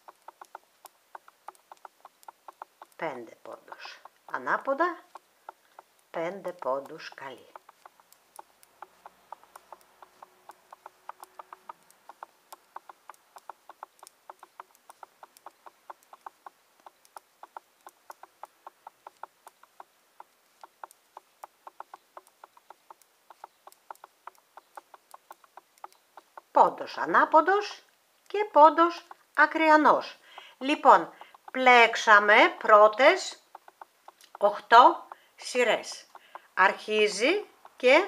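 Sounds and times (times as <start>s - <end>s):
metal knitting needles clicking: 0.0s - 38.0s.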